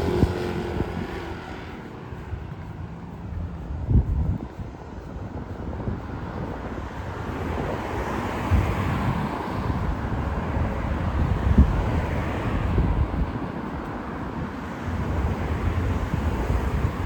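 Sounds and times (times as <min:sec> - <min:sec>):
vehicle passing: 0:00.0 - 0:17.0
wind rumbling on microphone: 0:00.0 - 0:17.0.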